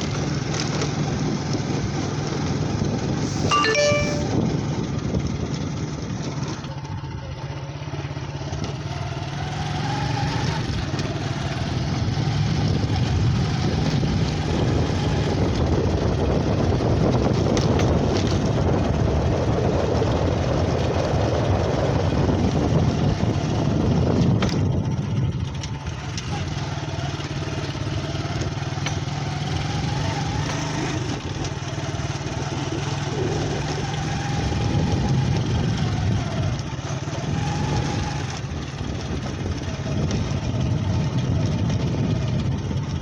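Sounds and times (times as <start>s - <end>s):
road and wind noise: 0.0s - 43.0s
motorcycle engine running: 4.8s - 43.0s.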